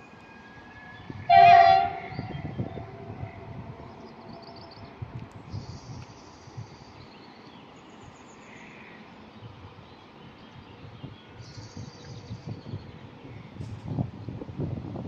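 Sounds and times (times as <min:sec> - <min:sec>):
wind gusts on microphone: 0:00.6 - 0:07.2, 0:09.4 - 0:15.0.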